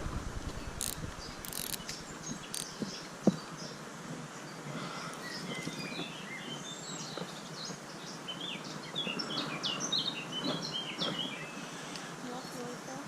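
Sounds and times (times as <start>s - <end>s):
outdoor background hiss: 0.0s - 13.0s
songbirds chirping: 0.4s - 13.0s.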